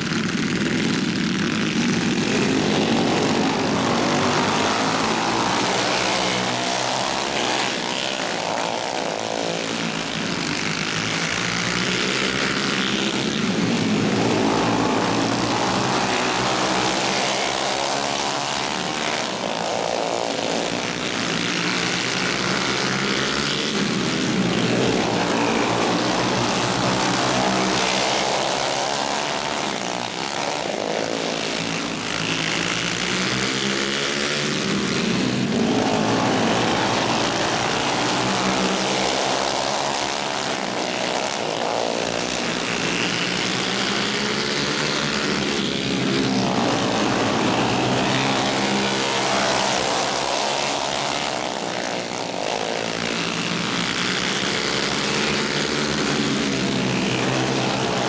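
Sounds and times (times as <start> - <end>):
go-kart engines racing: 0.0 - 58.0.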